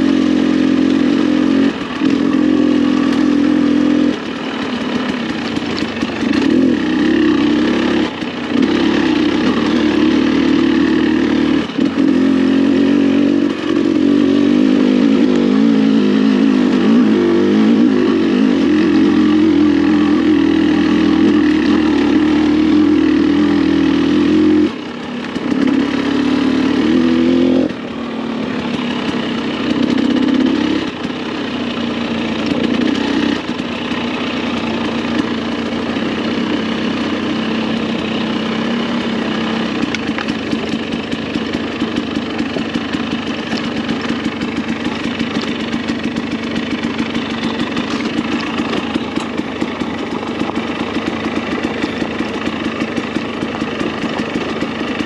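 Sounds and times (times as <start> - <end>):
dirt bike engine: 0.0 - 55.0.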